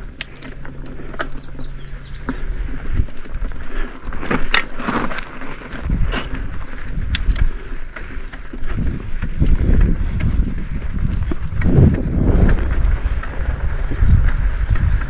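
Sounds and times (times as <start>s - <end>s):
bike knocking and rattling: 0.0s - 15.0s
tyres rumbling on rock: 0.0s - 15.0s.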